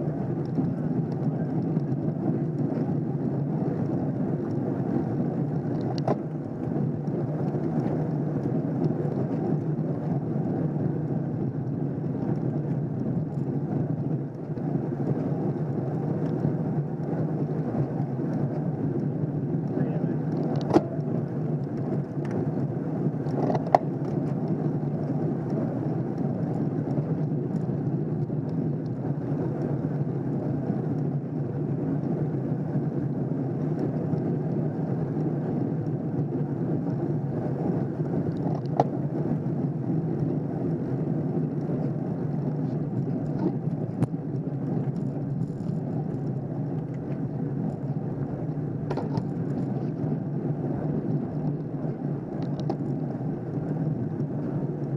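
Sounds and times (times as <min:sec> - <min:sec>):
bicycle tyre and drivetrain rumble: 0:00.0 - 0:54.9.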